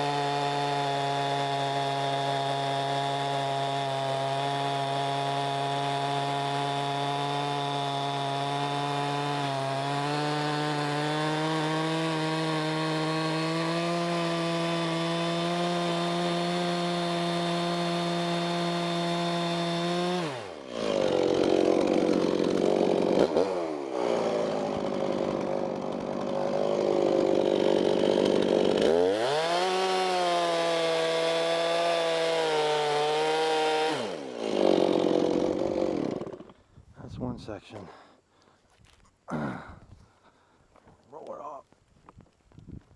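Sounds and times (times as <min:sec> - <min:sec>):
chainsaw running high revs: 0:00.0 - 0:36.6
chainsaw tearing through wood: 0:00.0 - 0:36.7.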